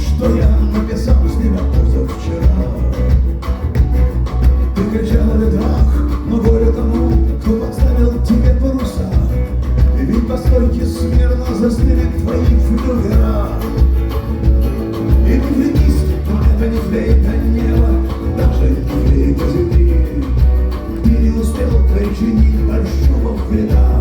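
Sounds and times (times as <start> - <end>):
guitar lines: 0.0 - 24.0
heavy steady bass: 0.0 - 24.0
live rock band playing: 0.0 - 24.0.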